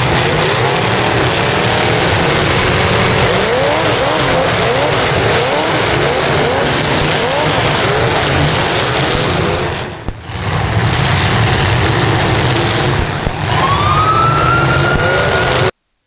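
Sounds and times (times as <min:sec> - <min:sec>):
car engines revving: 0:00.0 - 0:15.8
high whine: 0:00.0 - 0:15.8.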